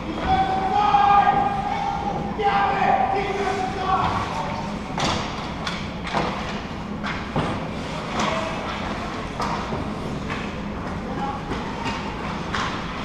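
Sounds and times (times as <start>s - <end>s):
arena background noise: 0.0s - 13.0s.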